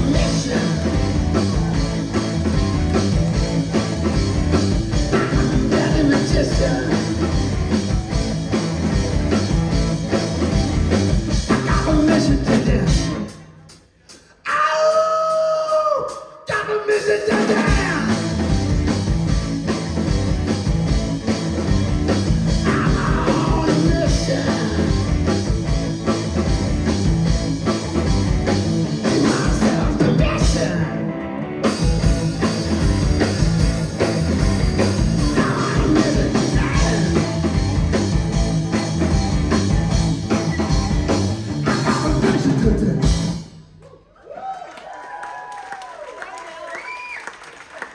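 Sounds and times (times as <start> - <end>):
live rock band playing: 0.0 - 14.1, 16.9 - 43.6.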